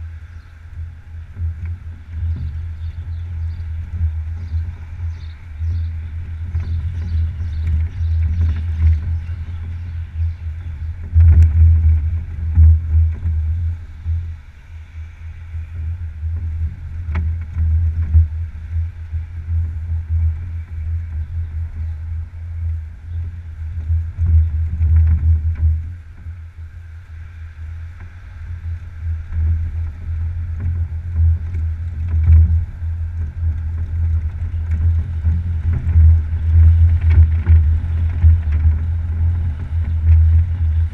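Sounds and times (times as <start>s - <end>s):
faint steady hiss: 0.0s - 40.9s
wind buffeting microphone: 0.0s - 40.9s.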